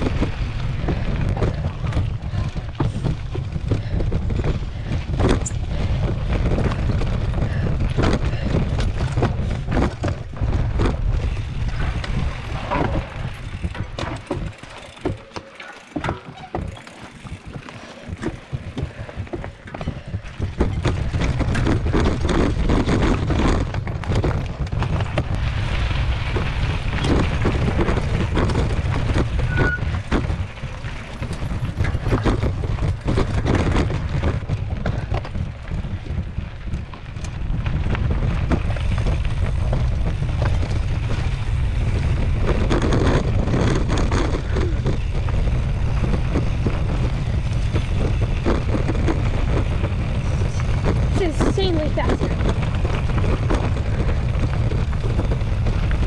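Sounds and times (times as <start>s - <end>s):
wind buffeting microphone: 0.0s - 15.2s, 15.8s - 56.0s
bike rattling over rocks: 0.0s - 56.0s.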